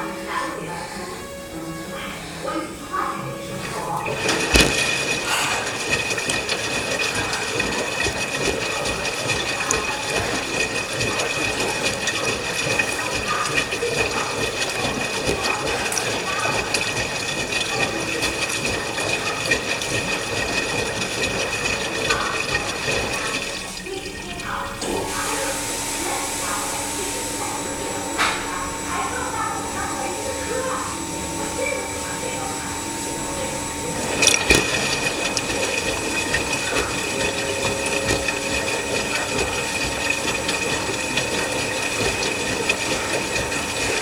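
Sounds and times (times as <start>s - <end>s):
washing machine water rushing: 0.0s - 44.0s.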